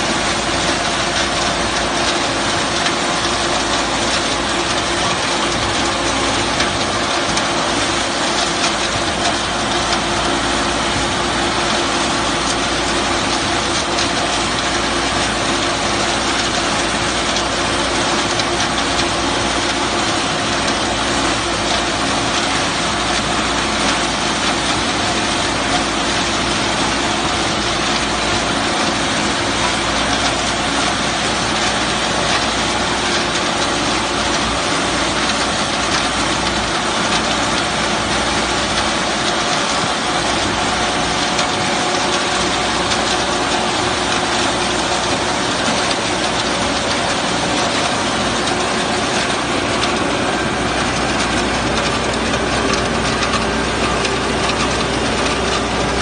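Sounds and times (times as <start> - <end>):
harvester chopping corn stalks: 0.0 - 56.0
tractor engine under load: 0.0 - 56.0.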